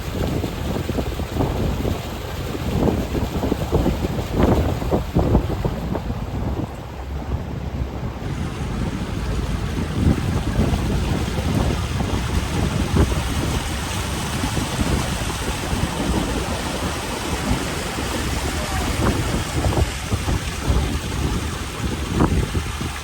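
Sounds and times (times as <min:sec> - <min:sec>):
boat motor running: 0:00.0 - 0:23.0
wind buffeting microphone: 0:00.0 - 0:23.0.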